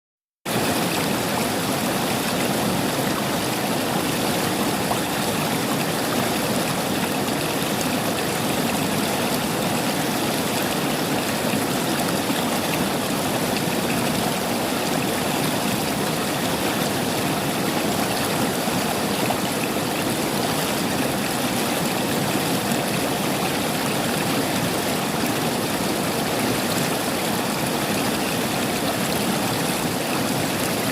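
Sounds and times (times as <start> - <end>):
river water flowing over stones: 0.5 - 30.9.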